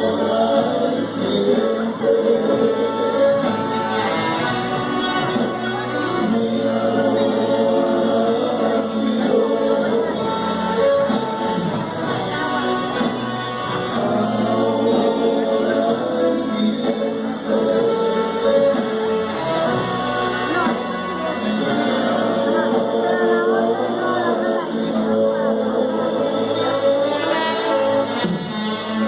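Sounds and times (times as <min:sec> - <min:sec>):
band playing live: 0:00.0 - 0:29.0
person singing: 0:00.0 - 0:29.0.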